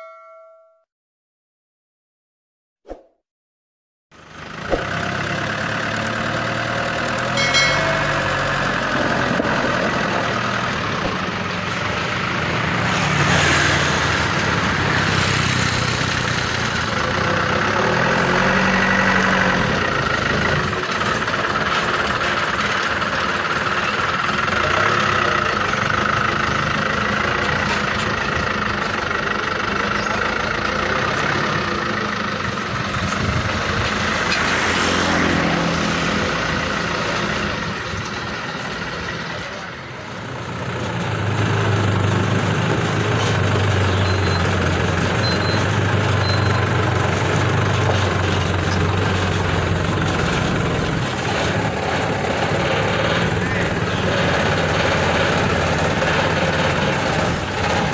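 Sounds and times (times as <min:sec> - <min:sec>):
truck engine running: 0:04.1 - 0:57.9.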